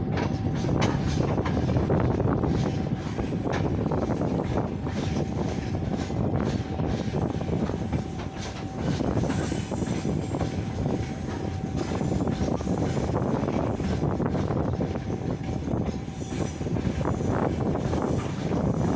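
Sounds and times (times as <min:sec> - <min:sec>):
train wheels clattering on rails: 0:00.0 - 0:18.9.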